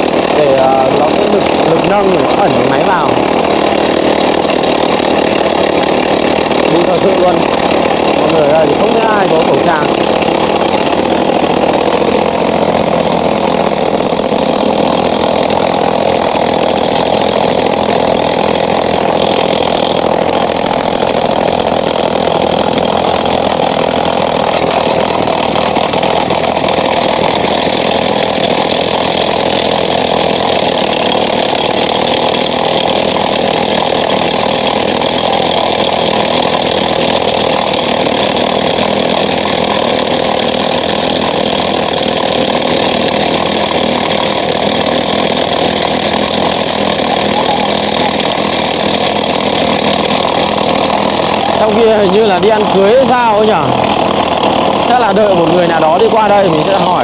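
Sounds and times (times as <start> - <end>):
road machinery engine drone: 0.0 - 57.0.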